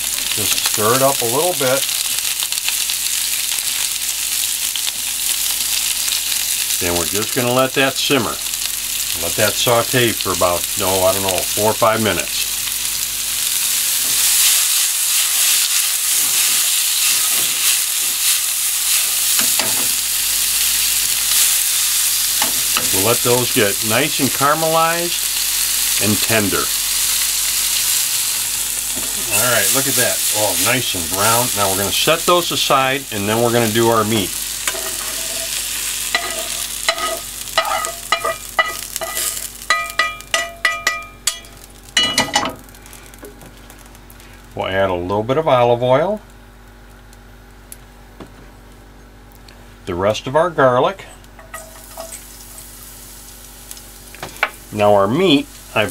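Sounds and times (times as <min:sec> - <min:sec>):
vegetables sizzling in a frying pan: 0:00.0 - 0:44.6, 0:51.2 - 0:55.9.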